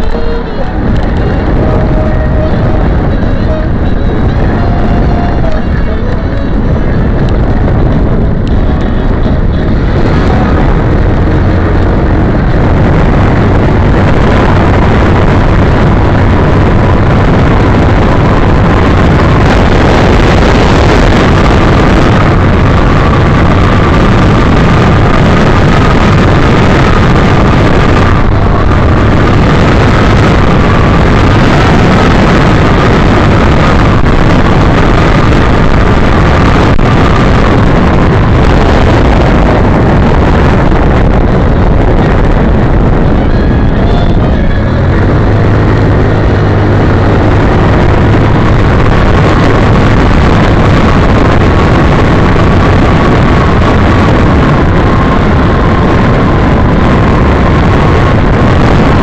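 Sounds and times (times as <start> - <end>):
road noise: 0.0 - 59.0
wind rushing on microphone: 0.0 - 59.0.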